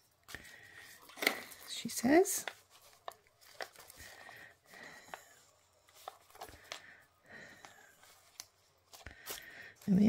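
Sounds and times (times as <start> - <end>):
ribbon rustling: 0.0 - 10.0.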